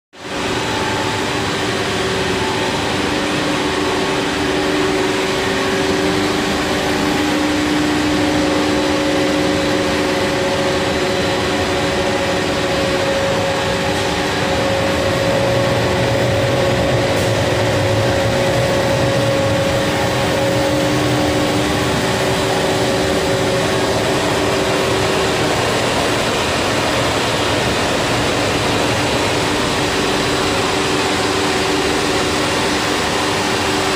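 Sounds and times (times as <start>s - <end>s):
motors and blowers whirring: 0.2s - 33.9s
steady hum tones: 0.2s - 33.9s.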